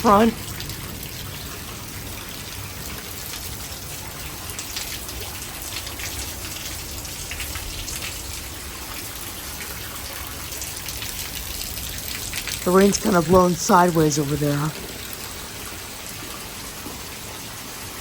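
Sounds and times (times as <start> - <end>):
sharp raindrops ticking: 0.0 - 17.3
heavy rain falling: 0.0 - 18.0.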